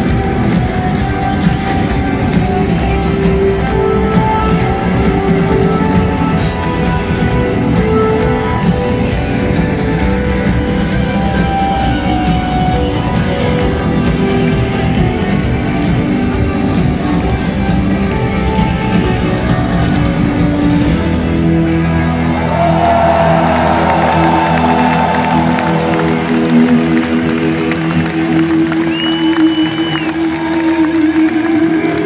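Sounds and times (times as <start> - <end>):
crowd noise: 0.0 - 32.0
live rock band playing: 0.0 - 32.0.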